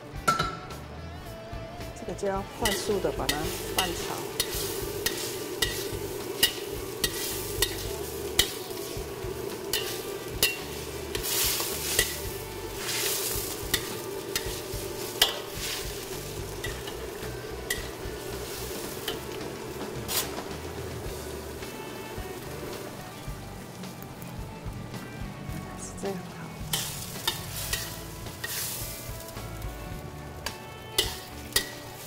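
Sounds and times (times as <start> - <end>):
ladle clanking and scraping wok: 2.5 - 23.0, 26.6 - 32.0
sauce sizzling and bubbling: 2.6 - 25.8, 26.5 - 32.0.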